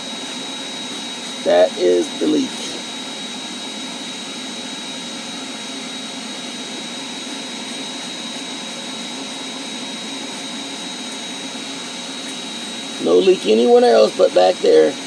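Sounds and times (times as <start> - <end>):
shop vac high whine: 0.0 - 15.0.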